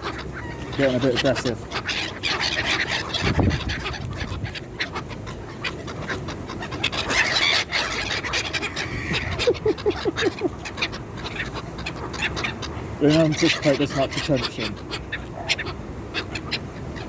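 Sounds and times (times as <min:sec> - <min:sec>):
duck quacking: 0:00.0 - 0:16.6.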